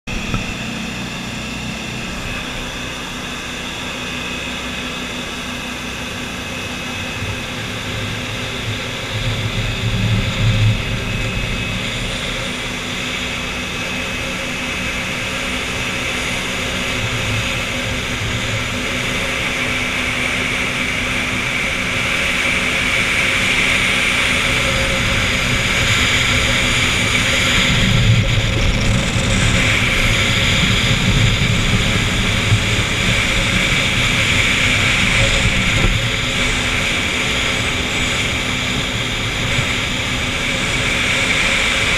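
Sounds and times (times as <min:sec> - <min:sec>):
boat engine drone: 0:00.0 - 0:41.9.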